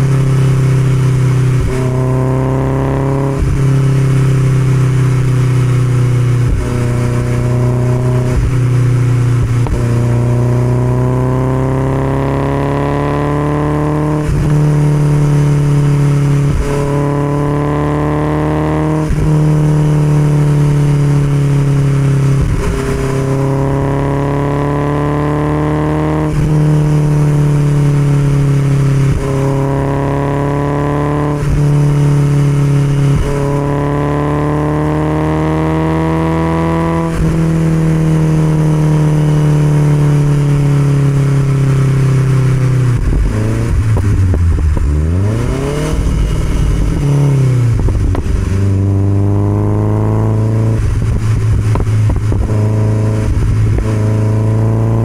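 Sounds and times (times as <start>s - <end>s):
car engine cruising: 0.0s - 55.0s.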